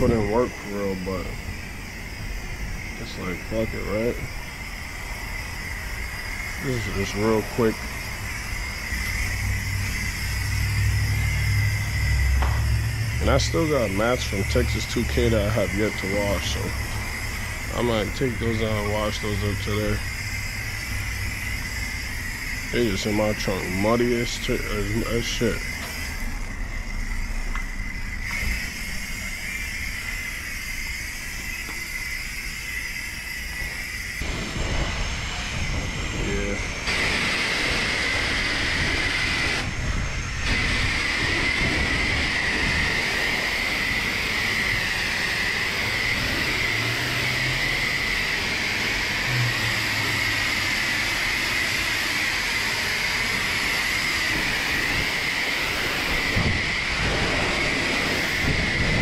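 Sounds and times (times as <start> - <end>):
pressure washer spraying water: 0.0 - 59.0
steady high whine: 0.0 - 59.0.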